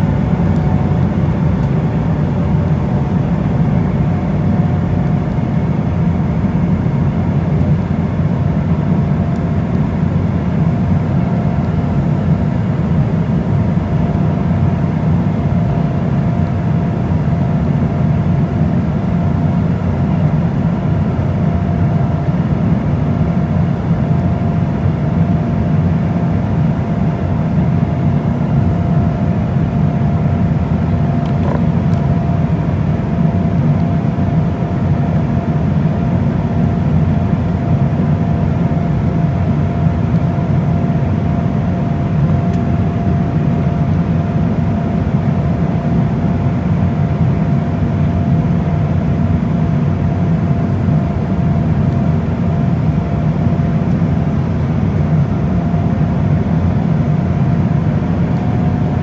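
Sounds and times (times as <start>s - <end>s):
jet engine and airflow roar: 0.0s - 59.0s.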